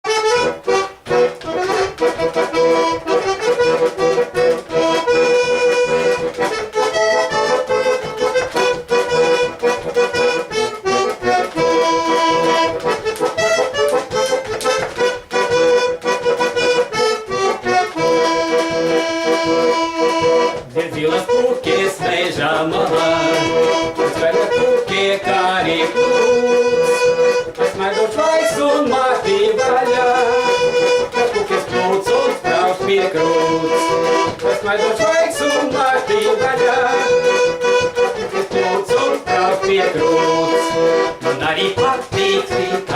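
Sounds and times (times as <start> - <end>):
button accordion playing folk tune: 0.0 - 42.9.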